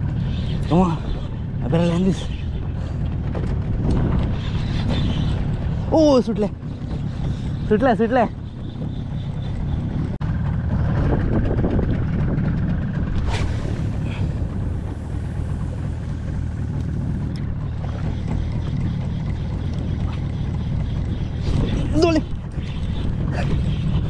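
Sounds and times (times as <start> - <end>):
water lapping around boat: 0.0 - 24.0
wind buffeting microphone: 0.0 - 24.0.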